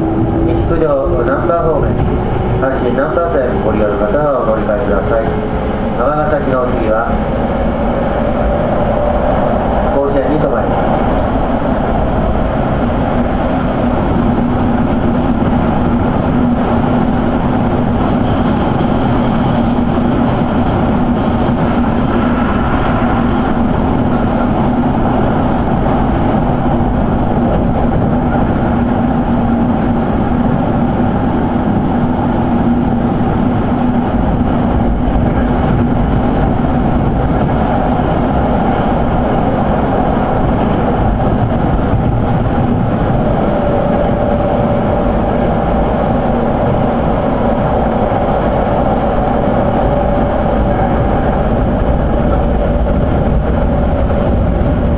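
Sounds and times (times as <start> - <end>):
low motor hum: 0.0 - 54.9
train wheels rumbling on rail: 0.0 - 54.9.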